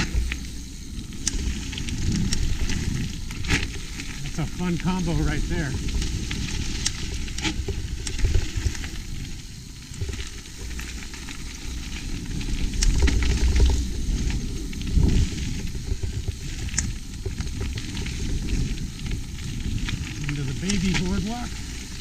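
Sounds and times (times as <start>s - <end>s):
bike rattling with sharp clicks: 0.0s - 22.0s
bike tyres crackling over trail: 0.0s - 22.0s
wind rumble on microphone: 0.0s - 22.0s.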